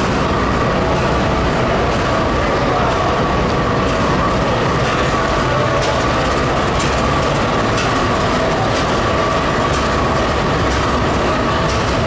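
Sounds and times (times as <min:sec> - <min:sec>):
diesel locomotive engine droning: 0:00.0 - 0:12.0.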